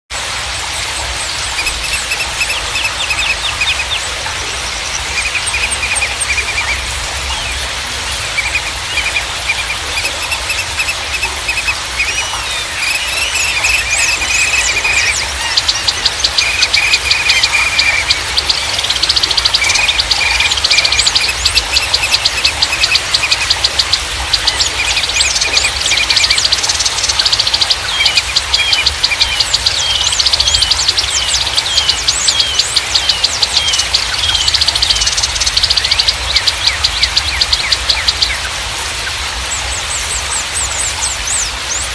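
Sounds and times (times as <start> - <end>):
songbirds chirping trills: 0.1 - 41.9
rapid high chittering: 0.2 - 41.9.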